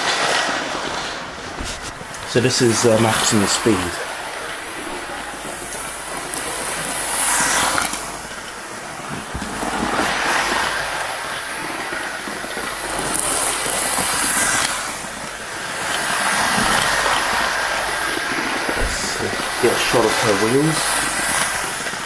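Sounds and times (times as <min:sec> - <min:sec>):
wheels rattling over track: 0:00.0 - 0:22.0
model train motor whirring: 0:00.5 - 0:22.0.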